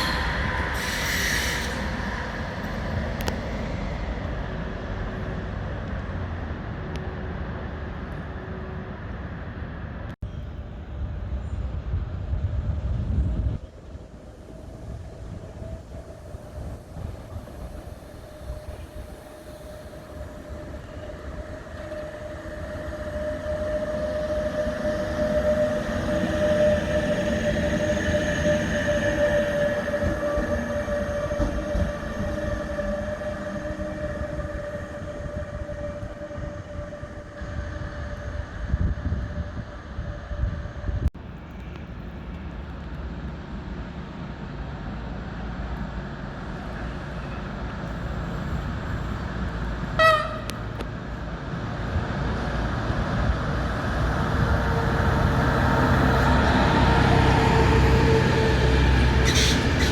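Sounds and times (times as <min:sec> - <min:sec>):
train running past: 0:00.0 - 0:59.9
train whine: 0:00.0 - 0:59.9.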